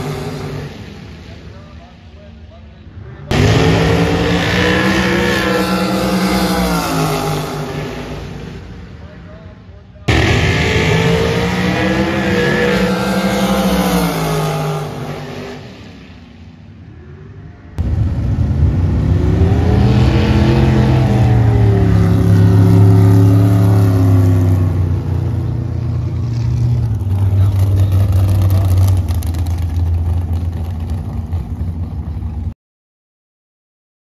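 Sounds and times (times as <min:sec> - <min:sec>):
drag race car engines roaring: 0:00.0 - 0:32.5.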